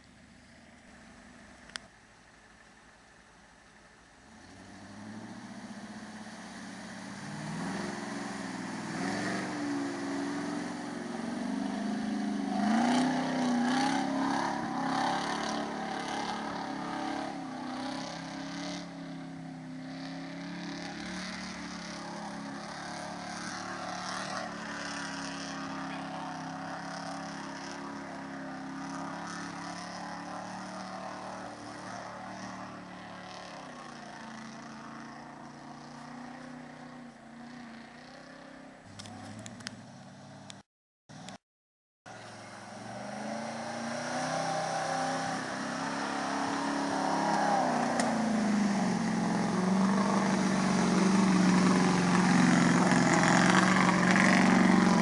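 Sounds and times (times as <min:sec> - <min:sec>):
truck engine revving: 0:04.3 - 0:40.5, 0:42.1 - 0:55.0.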